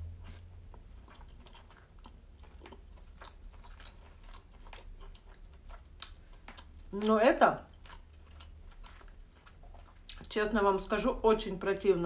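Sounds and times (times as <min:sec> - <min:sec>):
close-up chewing: 0:00.2 - 0:11.0.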